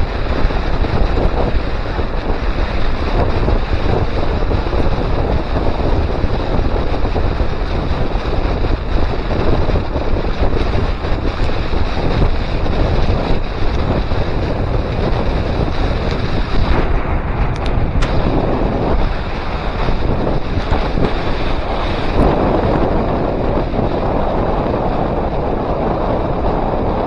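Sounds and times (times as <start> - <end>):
wind rush on microphone: 0.0 - 27.0.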